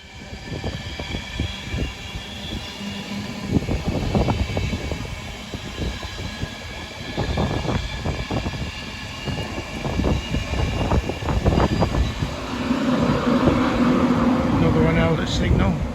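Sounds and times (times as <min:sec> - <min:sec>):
freight train rumbling past: 0:00.0 - 0:15.9.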